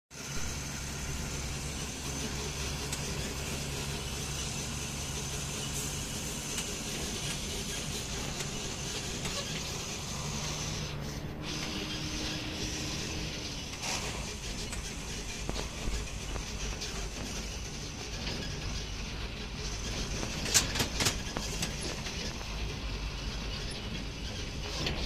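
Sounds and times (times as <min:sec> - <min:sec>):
road and wind noise: 0:00.1 - 0:25.0
truck diesel engine running: 0:00.1 - 0:25.0.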